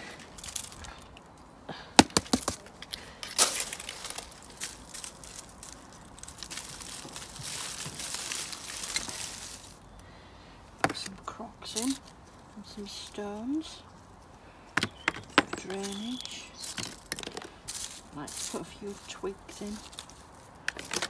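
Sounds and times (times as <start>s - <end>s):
compost rustling and scraping: 0.0s - 21.0s.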